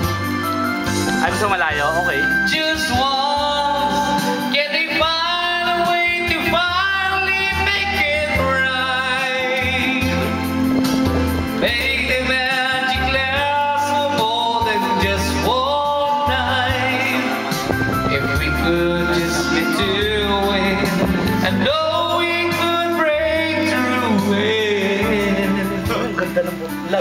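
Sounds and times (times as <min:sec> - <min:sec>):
music backing track: 0:00.0 - 0:27.0
man singing with vibrato: 0:02.2 - 0:27.0.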